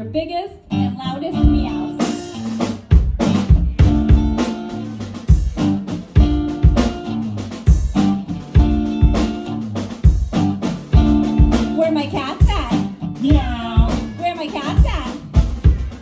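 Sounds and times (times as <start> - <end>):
steady low beat: 1.4 - 1.9, 2.6 - 11.8, 12.4 - 16.0.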